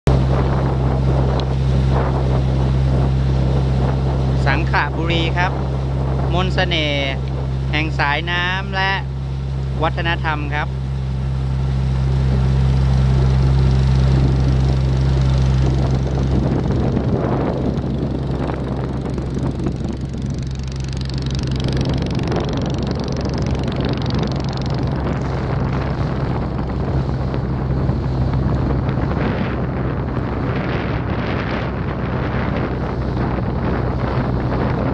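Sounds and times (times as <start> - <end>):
boat engine running: 0.0 - 34.9
wind buffeting the microphone: 0.1 - 34.9.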